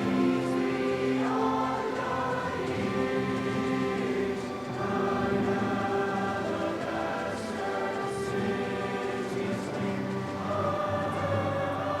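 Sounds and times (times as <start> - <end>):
choir singing held notes: 0.0 - 12.0.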